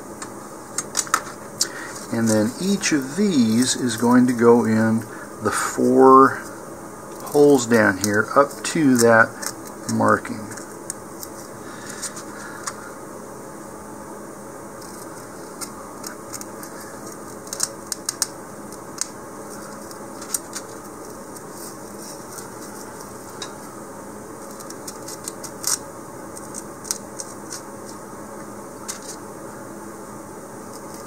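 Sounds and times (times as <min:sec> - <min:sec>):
steady background hum: 0:00.0 - 0:31.0.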